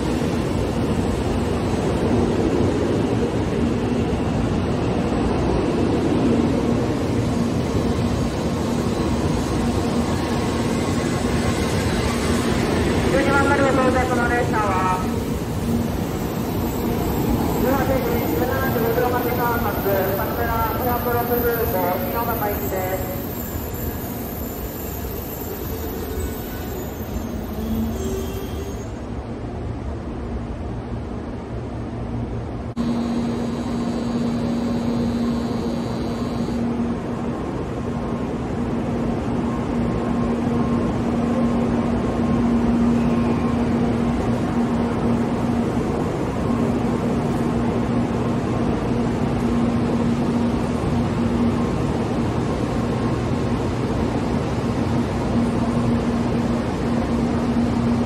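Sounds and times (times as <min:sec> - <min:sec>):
train rolling into station: 0:00.0 - 0:58.0.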